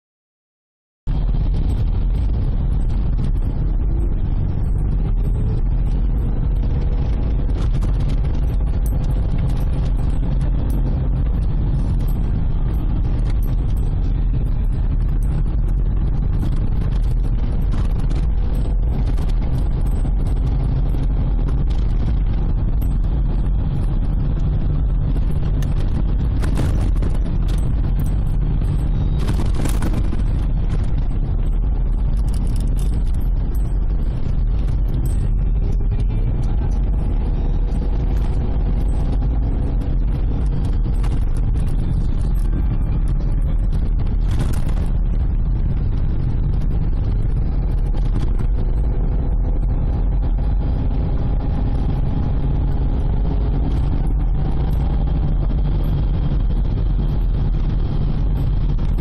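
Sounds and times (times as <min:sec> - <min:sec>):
car cabin road and engine rumble: 0:01.1 - 0:59.0
faint whine: 0:01.1 - 0:59.0.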